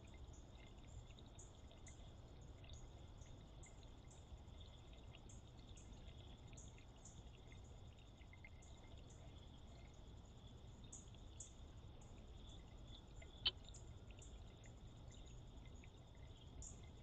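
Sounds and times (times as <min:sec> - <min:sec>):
crickets trilling: 0:00.0 - 0:17.0
high insect chirps: 0:00.0 - 0:17.0.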